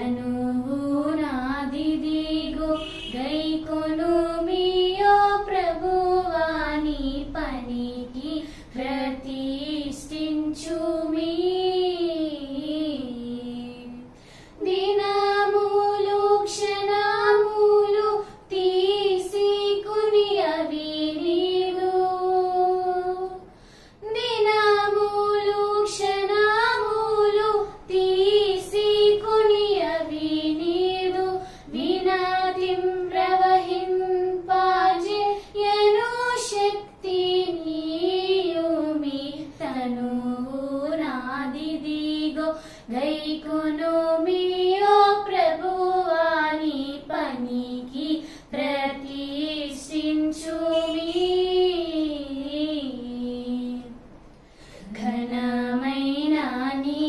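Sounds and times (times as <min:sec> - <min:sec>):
girls singing a hymn: 0:00.0 - 0:54.0, 0:54.8 - 0:57.0.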